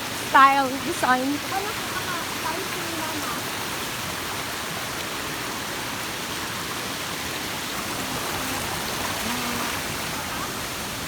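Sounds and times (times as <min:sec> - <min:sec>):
rushing water hiss: 0:00.0 - 0:11.0.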